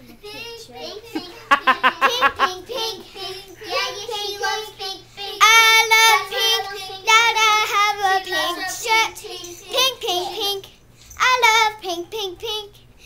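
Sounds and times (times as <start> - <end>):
girl singing in high voice: 0.2 - 12.8.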